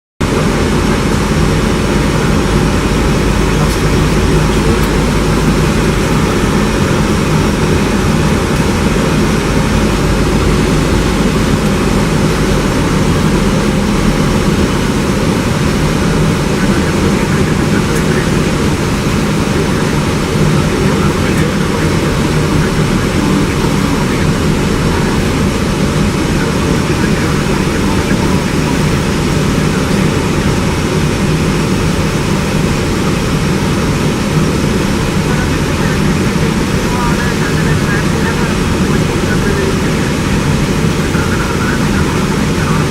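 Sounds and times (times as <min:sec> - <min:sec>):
airplane cabin rushing noise: 0:00.2 - 0:42.9
low hum: 0:00.2 - 0:42.9.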